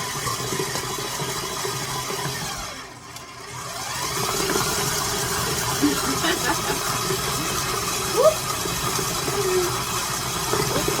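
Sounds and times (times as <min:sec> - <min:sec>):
electric mixer motor running: 0:00.0 - 0:11.0.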